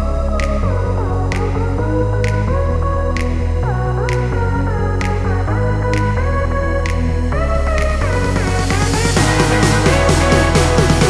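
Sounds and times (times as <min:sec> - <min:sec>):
electronic synth music: 0:00.0 - 0:11.0.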